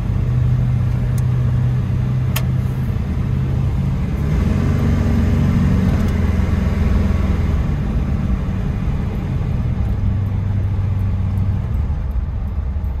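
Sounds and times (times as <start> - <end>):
engine rumbling through exhaust: 0.0 - 13.0.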